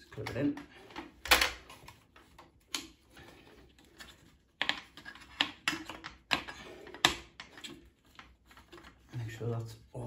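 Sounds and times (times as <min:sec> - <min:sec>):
clicks and knocks of metal and plastic: 0:00.2 - 0:03.1, 0:03.8 - 0:09.1.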